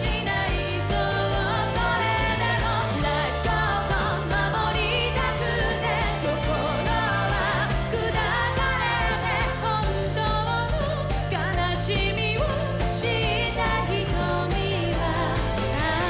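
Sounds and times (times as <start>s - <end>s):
band with steady bass line: 0.0s - 16.0s
pop song with sung vocal: 0.0s - 16.0s.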